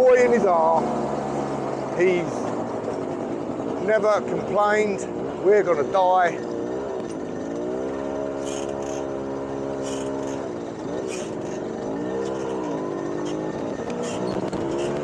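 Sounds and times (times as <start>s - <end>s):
moped engine running: 0.0s - 15.0s.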